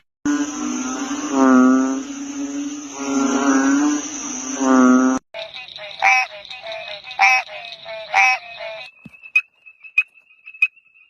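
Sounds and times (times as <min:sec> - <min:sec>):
frog chorus trilling: 0:00.3 - 0:11.0
frogs croaking: 0:00.3 - 0:11.0.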